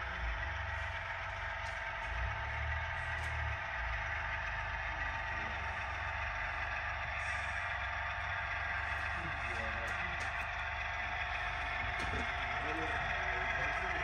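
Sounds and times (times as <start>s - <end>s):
model locomotives humming: 0.0s - 14.0s.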